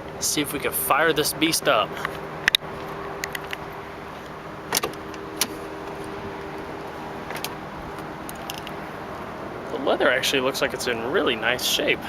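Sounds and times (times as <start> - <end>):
low hum: 0.0 - 11.3.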